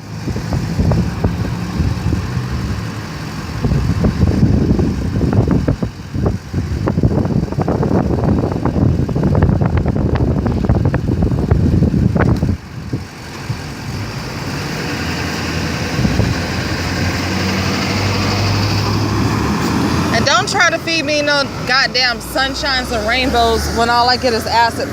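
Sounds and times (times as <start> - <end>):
engine and road noise: 0.0 - 24.9
vehicle passing with rumble: 0.0 - 24.9.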